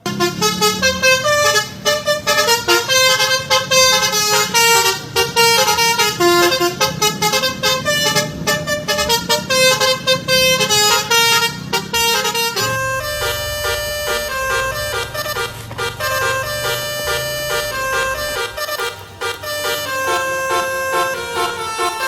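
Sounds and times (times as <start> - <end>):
multi-trumpet air horn tune: 0.0 - 22.0.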